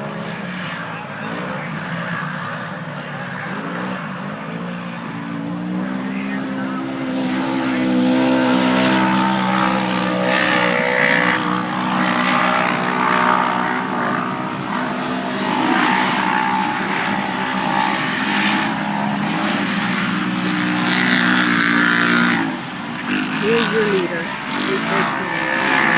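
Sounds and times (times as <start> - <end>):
race vehicle engines revving: 0.0 - 25.9.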